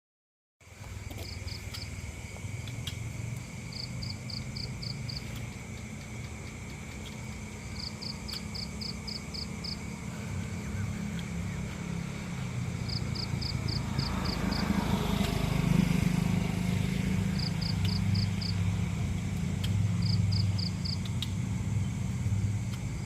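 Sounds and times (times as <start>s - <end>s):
insect chirping pulses: 0.6s - 23.0s.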